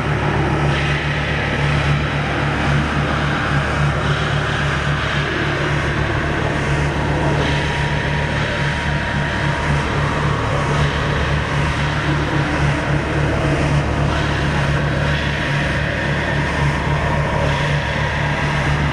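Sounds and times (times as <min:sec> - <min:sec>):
dense wash of noise: 0:00.0 - 0:18.9
low pulsing electronic note: 0:00.0 - 0:18.9.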